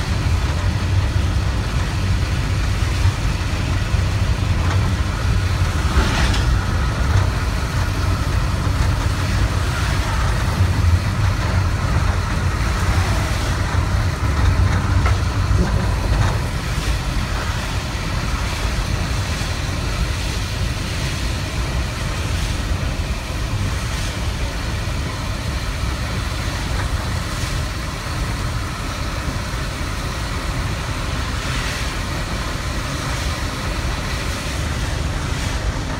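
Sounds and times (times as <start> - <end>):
engine and road rumble: 0.0 - 35.9
tyres hissing on wet road: 0.0 - 35.9.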